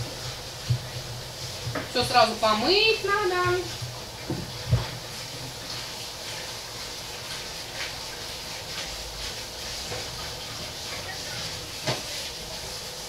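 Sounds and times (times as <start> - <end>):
tap water running into sink: 0.0 - 12.7.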